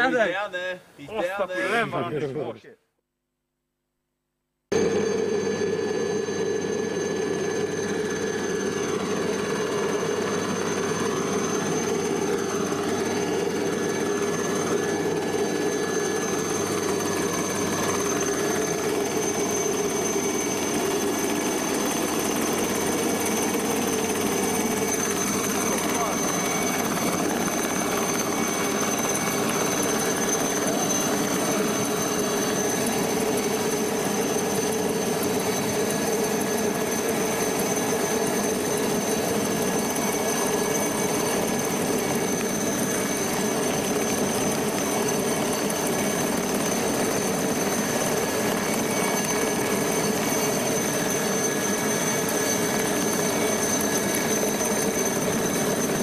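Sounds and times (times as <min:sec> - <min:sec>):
helicopter hovering: 0:04.7 - 0:56.0.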